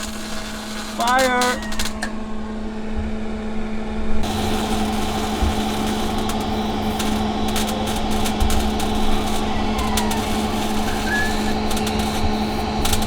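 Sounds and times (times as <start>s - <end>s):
welding arc crackling: 0.0s - 2.3s, 4.2s - 13.0s
steady electrical hum: 0.0s - 13.0s.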